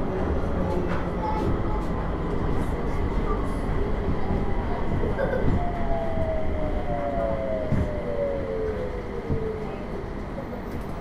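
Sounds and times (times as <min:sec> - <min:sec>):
light-rail car running rumble: 0:00.0 - 0:11.0.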